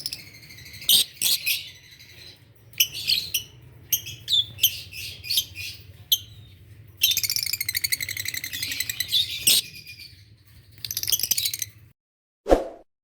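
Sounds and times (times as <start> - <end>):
lovebirds chirping and chattering: 0.0 - 11.8.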